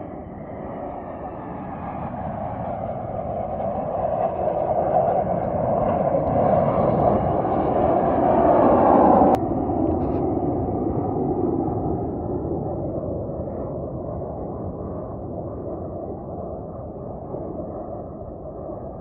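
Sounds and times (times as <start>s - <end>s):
jet engines roaring past: 0.0s - 19.0s.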